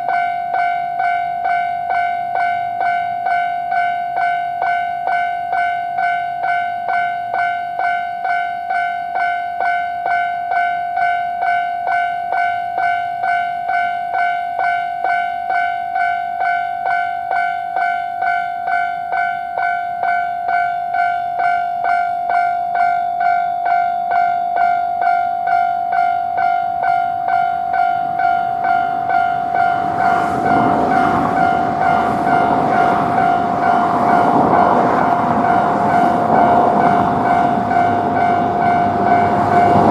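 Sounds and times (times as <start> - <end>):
level-crossing alarm ringing: 0.0 - 39.9
train rumble and wheel clatter: 0.0 - 39.9.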